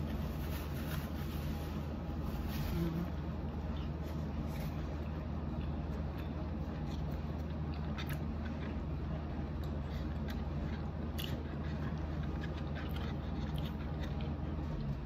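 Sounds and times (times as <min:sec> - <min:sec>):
low steady hum: 0:00.0 - 0:15.0
chewing crisp tortilla: 0:01.8 - 0:15.0.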